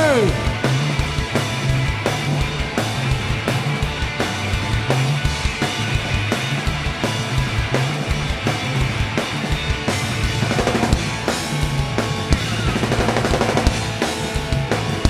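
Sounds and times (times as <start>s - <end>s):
bass line: 0.0s - 15.0s
drum kit beat: 0.0s - 15.0s
rock band playing instrumental: 0.0s - 15.0s.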